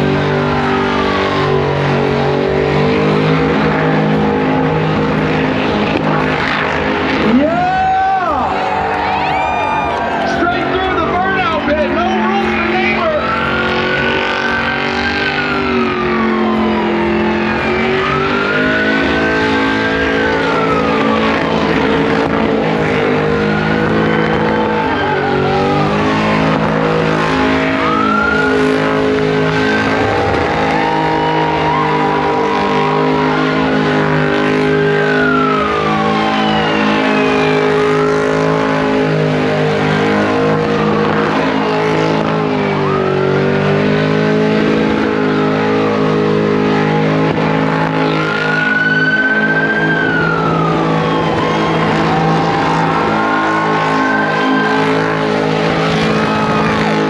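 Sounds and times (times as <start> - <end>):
car engine at high revs: 0.0 - 57.0.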